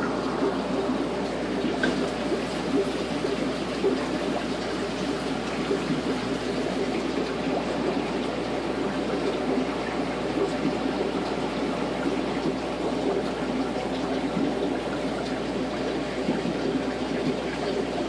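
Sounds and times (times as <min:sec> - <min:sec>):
aquarium water trickling: 0:00.0 - 0:18.0.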